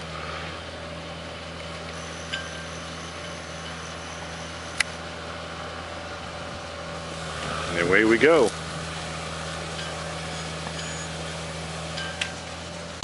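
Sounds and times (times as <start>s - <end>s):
drilling rig engine running: 0.0s - 13.0s.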